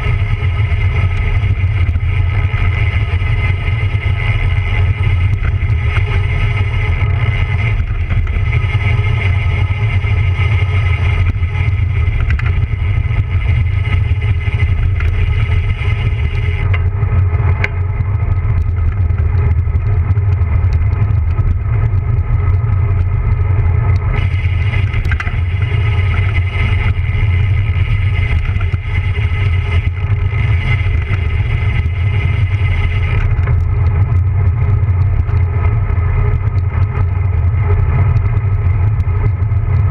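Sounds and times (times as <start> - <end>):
heavy rolling rumble: 0.0 - 39.9.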